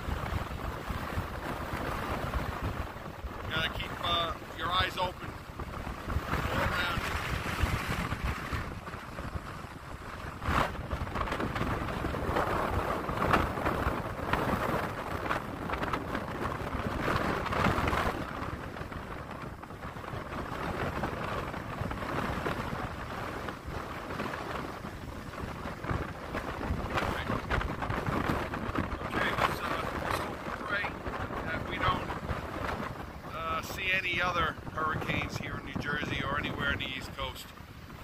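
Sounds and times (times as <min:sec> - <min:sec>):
gusty wind buffeting microphone: 0:00.0 - 0:38.0
ocean surf breaking: 0:00.0 - 0:38.0.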